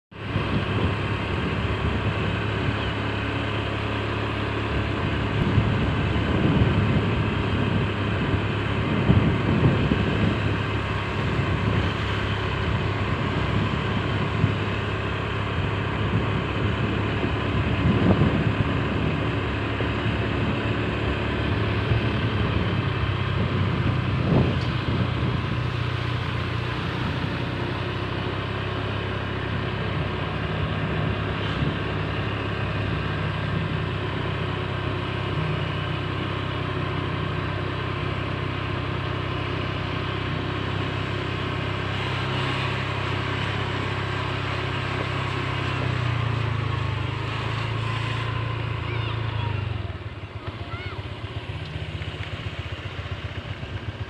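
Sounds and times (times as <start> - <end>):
road and wind noise: 0.0 - 54.0
small motorcycle engine running: 0.1 - 54.0.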